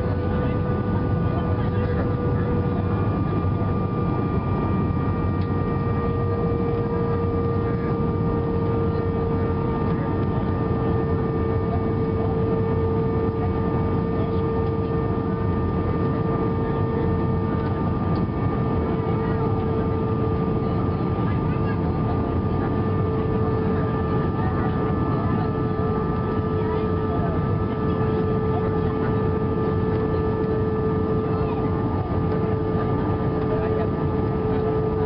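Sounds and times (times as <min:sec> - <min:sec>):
jet engines and airflow rumble: 0:00.0 - 0:35.0
steady whine: 0:00.0 - 0:35.0.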